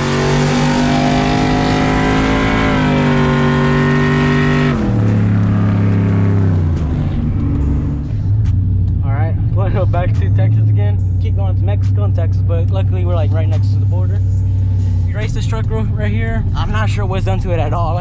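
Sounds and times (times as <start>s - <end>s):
truck engine accelerating: 0.0s - 18.0s.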